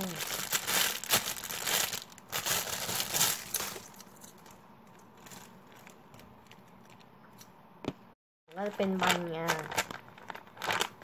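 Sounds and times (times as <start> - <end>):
plastic bag crinkling: 0.0 - 7.0, 8.5 - 11.0.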